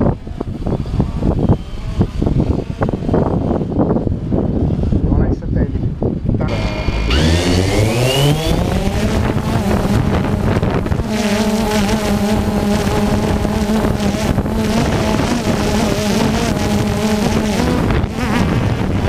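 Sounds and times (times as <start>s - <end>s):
drone motors whining and buzzing: 0.0s - 5.1s, 6.4s - 19.0s.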